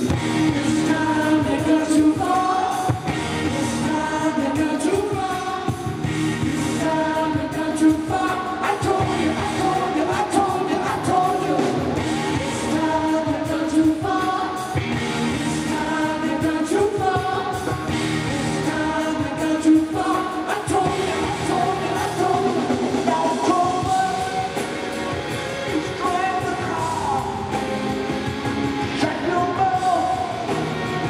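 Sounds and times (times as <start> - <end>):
man singing lead vocal: 0.0 - 27.9, 28.8 - 30.8
bass guitar: 0.0 - 31.0
drums: 0.0 - 31.0
electric guitars: 0.0 - 31.0.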